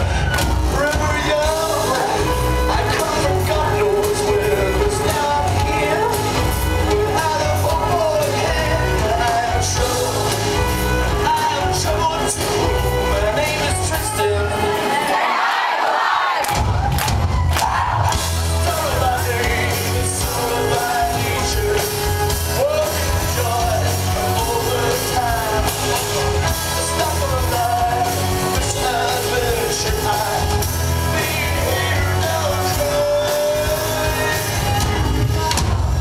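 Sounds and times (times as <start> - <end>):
rock music with bass and drums: 0.0 - 15.0, 16.5 - 36.0
person singing: 0.0 - 15.2, 18.1 - 35.8.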